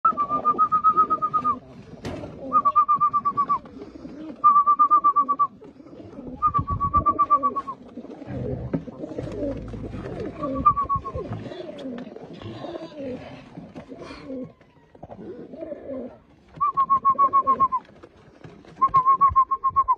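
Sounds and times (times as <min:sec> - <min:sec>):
pigeons cooing: 0:00.1 - 0:19.9.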